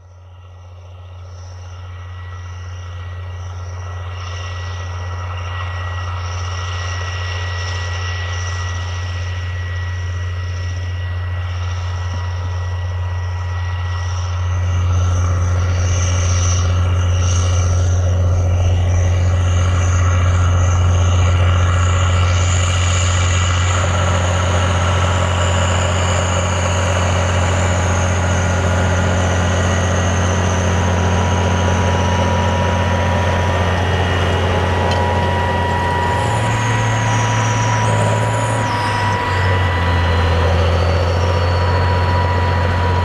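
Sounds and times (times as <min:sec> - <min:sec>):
thin steady whine: 0:00.0 - 0:43.0
tractor diesel engine droning: 0:00.0 - 0:43.0.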